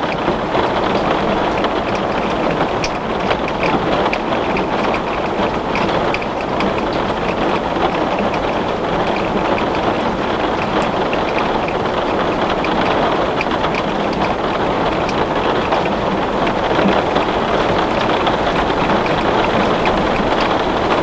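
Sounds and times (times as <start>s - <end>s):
heavy rain on glass: 0.0s - 21.0s.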